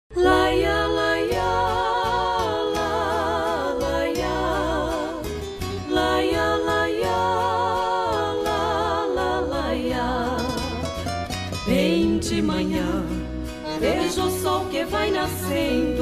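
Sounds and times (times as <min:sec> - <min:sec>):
gospel song with held vocal melody: 0:00.1 - 0:16.0.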